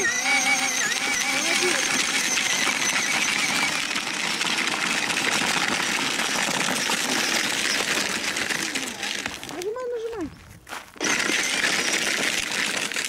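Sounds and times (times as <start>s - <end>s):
electric motor whirring: 0.0s - 9.8s, 11.0s - 13.0s
plastic wheels crunching gravel: 0.0s - 13.0s.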